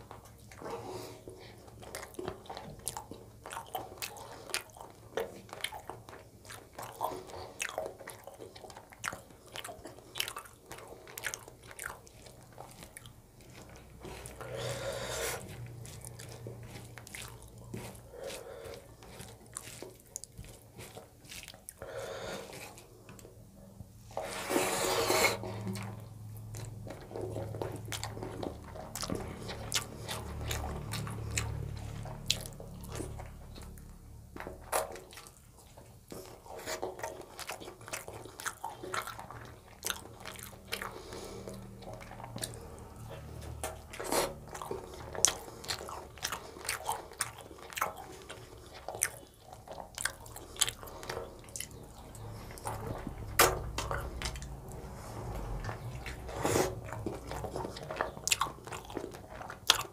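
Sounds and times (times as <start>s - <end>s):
chewing and biting: 0.0s - 59.9s.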